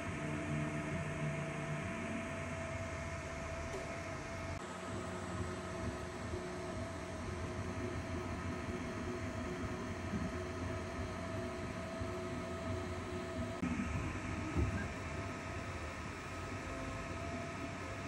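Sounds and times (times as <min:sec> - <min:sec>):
printer fans and motors humming: 0:00.0 - 0:18.0.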